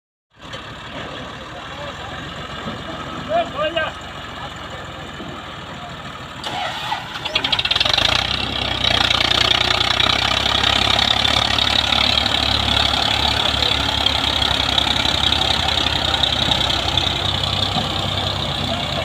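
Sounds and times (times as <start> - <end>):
tractor engine running: 0.3 - 19.0.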